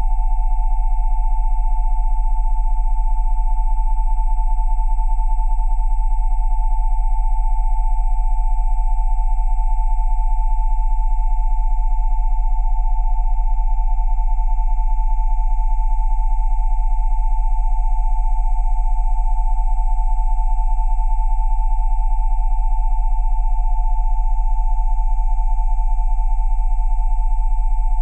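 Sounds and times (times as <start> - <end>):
steady electronic sine tones: 0.0 - 28.0.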